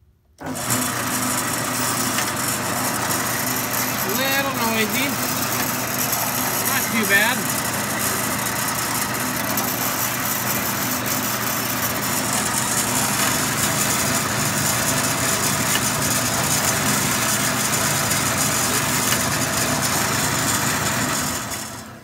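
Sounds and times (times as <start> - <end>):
bandsaw running: 0.4 - 22.0.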